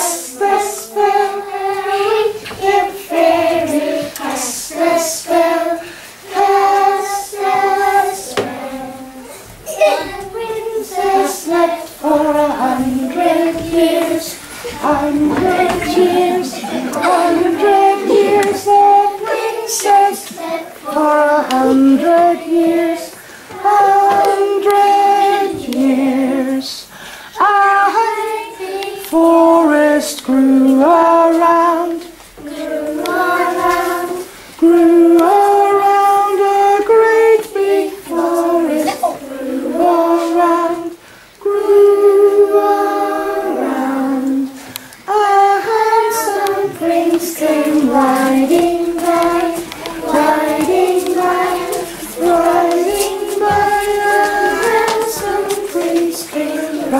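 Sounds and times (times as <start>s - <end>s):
young children singing: 0.0s - 56.9s.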